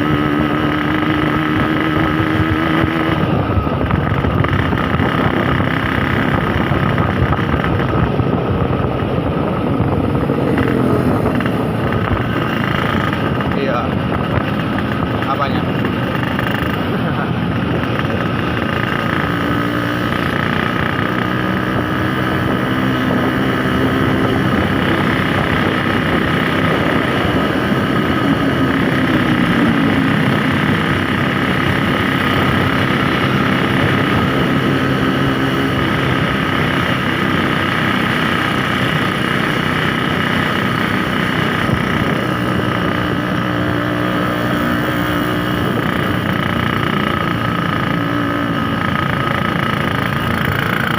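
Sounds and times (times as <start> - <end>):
road noise: 0.0 - 50.9
two-stroke motorcycle engine running: 0.0 - 50.9.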